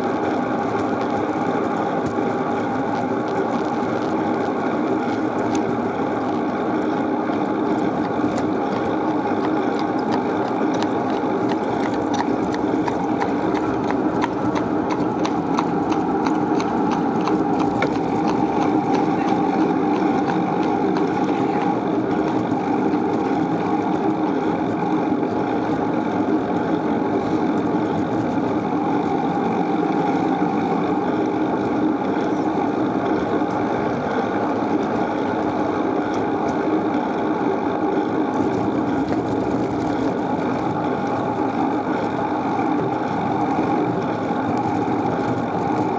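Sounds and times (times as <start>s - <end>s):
bicycle road rumble: 0.0s - 45.9s
wind: 0.0s - 45.9s.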